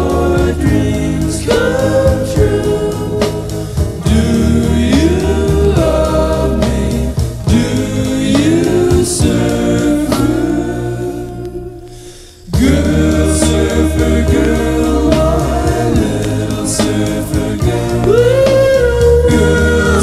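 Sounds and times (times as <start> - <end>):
pop music with choir harmonies: 0.0 - 20.0.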